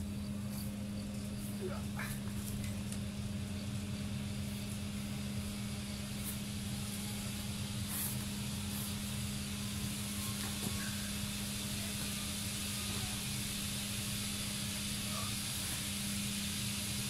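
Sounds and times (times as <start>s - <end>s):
faint hiss: 0.0s - 17.0s
low mechanical hum: 0.0s - 17.0s.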